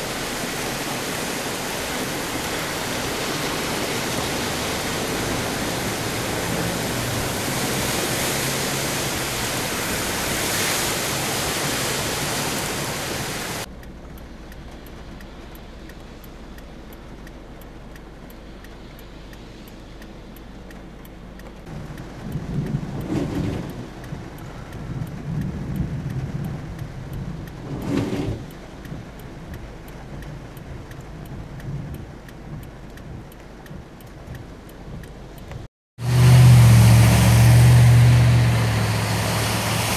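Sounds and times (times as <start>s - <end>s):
heavy rain: 0.0s - 39.9s
vehicles driving through flood water: 0.0s - 39.9s.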